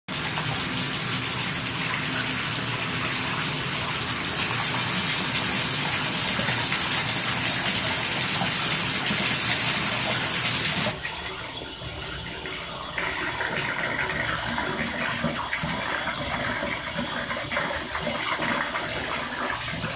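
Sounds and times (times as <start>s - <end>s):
tap water running into bathtub: 0.1s - 19.9s.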